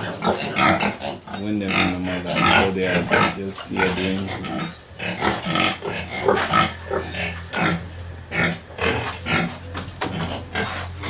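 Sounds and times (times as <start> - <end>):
pigs grunting: 0.0 - 11.0
steady low hum: 0.0 - 11.0.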